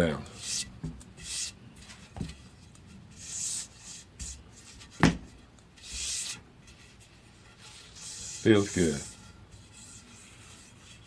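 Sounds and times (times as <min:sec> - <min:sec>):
hands rubbing wooden handle: 0:00.4 - 0:11.0.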